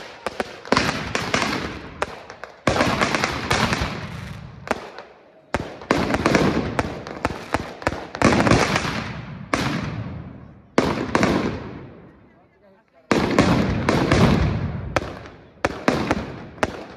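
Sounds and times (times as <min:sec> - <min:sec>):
fireworks bursting with echo: 0:00.0 - 0:12.3, 0:13.0 - 0:16.9.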